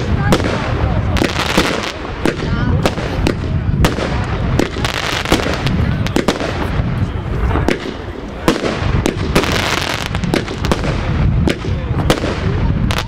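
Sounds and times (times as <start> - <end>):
continuous noisy hiss: 0.0 - 13.0.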